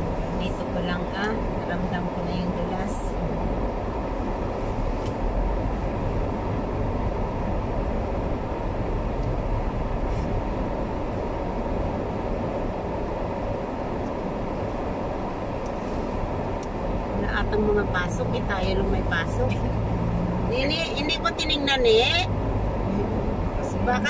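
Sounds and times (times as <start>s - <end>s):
car tyres and engine rumble: 0.0s - 24.0s.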